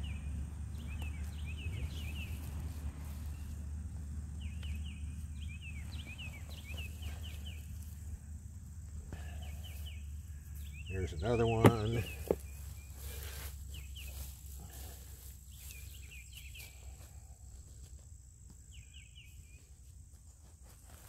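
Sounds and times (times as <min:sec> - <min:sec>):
steady low rumble: 0:00.0 - 0:17.5
songbird chirping: 0:00.0 - 0:21.0.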